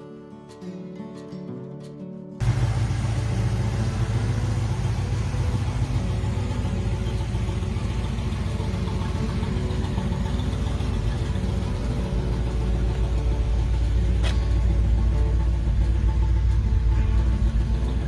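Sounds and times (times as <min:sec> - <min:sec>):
car engine idling: 0:02.4 - 0:18.0.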